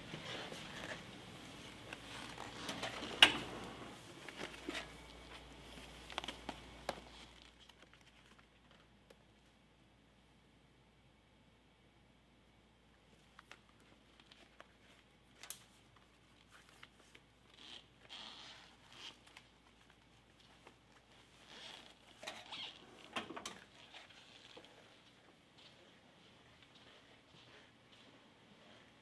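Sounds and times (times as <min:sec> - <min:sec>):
rustling of book and bag: 0:00.0 - 0:09.0, 0:13.2 - 0:29.0.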